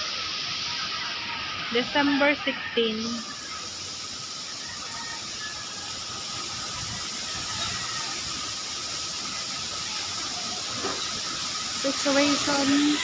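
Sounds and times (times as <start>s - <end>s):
strong wind and heavy rain: 0.0s - 13.0s.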